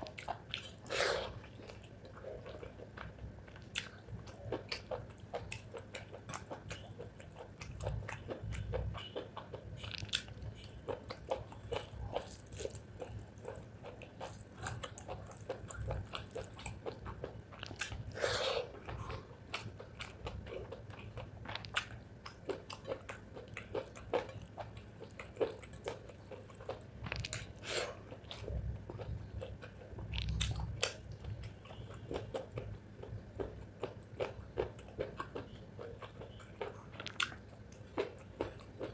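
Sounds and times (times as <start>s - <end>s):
close chewing with crunchy clicks: 0.0s - 38.9s.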